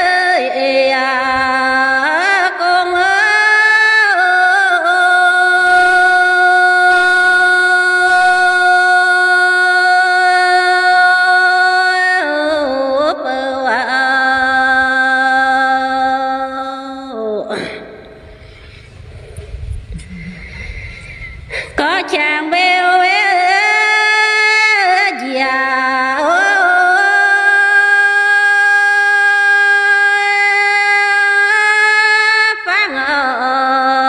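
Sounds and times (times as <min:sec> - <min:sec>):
woman singing unaccompanied: 0:00.0 - 0:17.9, 0:21.8 - 0:34.0.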